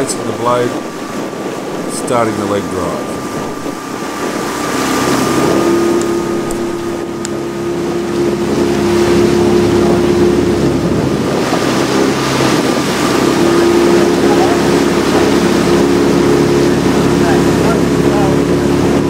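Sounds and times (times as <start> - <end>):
outboard motor running: 0.0 - 19.0
wind buffeting microphone: 0.0 - 19.0.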